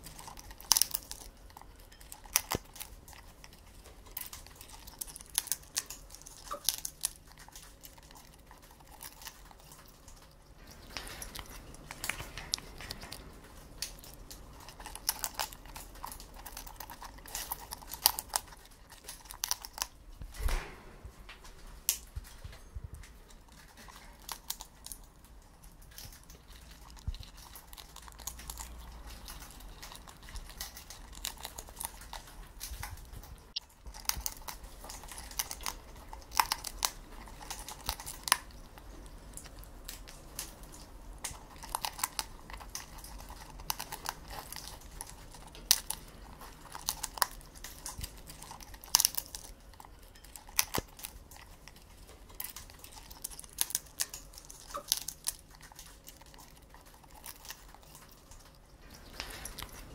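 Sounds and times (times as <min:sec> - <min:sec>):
parrot cracking grain with beak: 0:00.0 - 0:20.7, 0:21.8 - 0:59.9.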